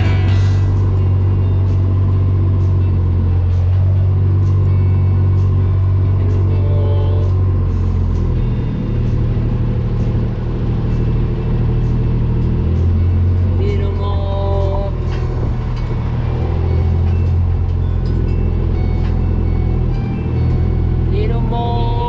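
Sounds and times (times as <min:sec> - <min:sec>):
utility vehicle engine driving: 0:00.0 - 0:22.0.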